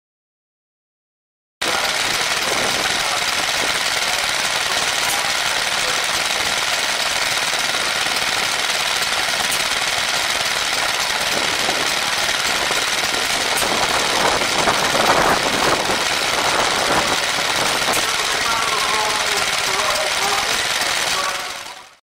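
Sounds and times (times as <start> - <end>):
stationary engine chugging: 1.6 - 22.0.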